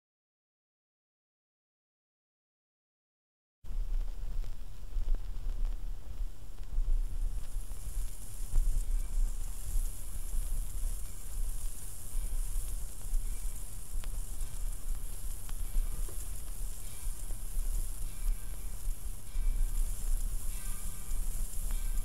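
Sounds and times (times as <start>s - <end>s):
vinyl crackle: 3.7s - 22.0s
vinyl surface hiss: 3.7s - 22.0s.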